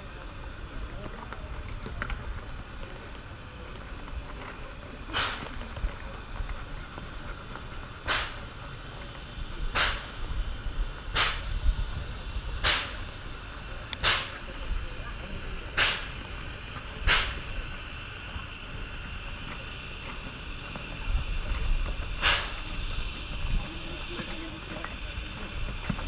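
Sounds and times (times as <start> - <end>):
steam locomotive chuffing: 0.0 - 26.0.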